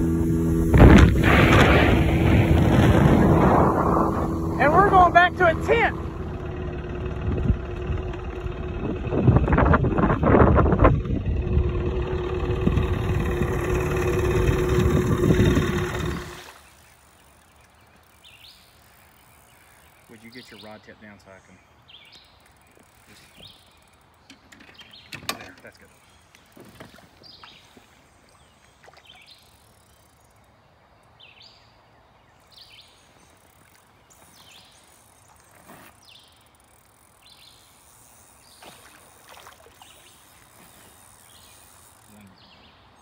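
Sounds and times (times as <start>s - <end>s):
river ambience: 0.0s - 43.0s.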